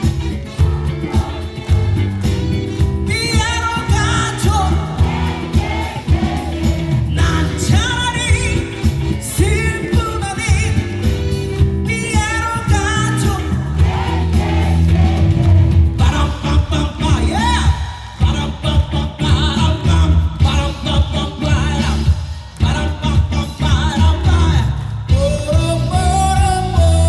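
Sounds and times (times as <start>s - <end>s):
live pop band backing: 0.0s - 27.0s.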